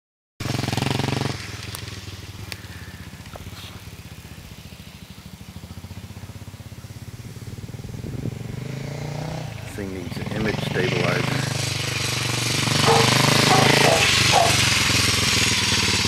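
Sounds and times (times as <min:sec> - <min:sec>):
motorcycle engine running: 0:00.4 - 0:16.0.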